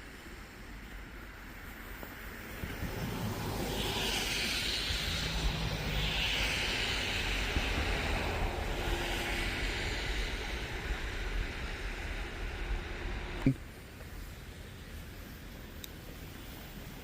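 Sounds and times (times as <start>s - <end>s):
hissing rush of sliding on snow: 0.0s - 17.0s
wind buffeting microphone: 1.8s - 17.0s.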